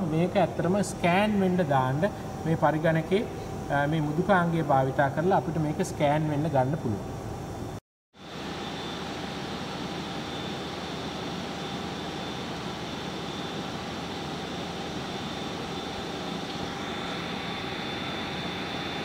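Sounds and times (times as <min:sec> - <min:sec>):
machinery and ventilation hum: 0:00.0 - 0:19.0
faint whines: 0:00.3 - 0:19.0.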